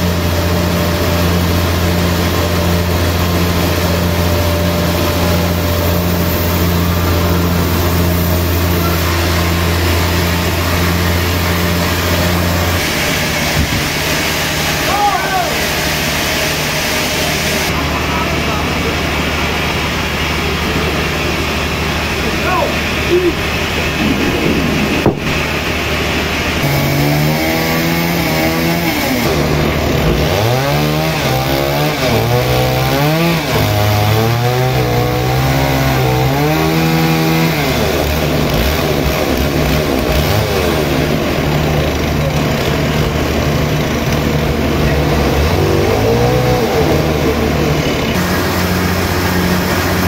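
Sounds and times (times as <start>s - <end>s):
motor-like whine: 0.0s - 32.4s, 37.2s - 50.0s
sawmill machinery running: 0.0s - 50.0s.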